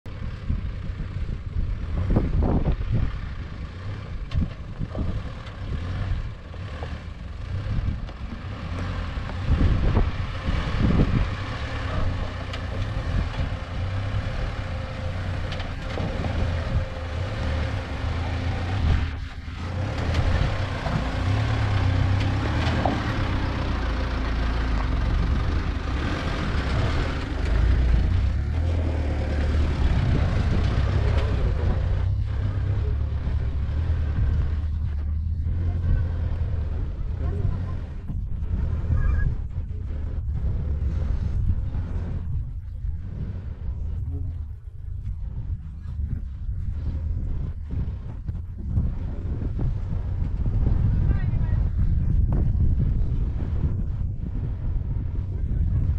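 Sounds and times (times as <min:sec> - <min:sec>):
engine running at low speed: 0:00.0 - 0:55.9.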